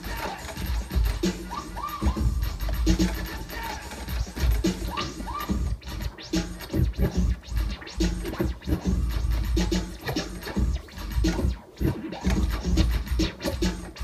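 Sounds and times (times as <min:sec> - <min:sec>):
beat with heavy bass: 0:00.0 - 0:14.0
record scratching on turntable: 0:00.0 - 0:14.0.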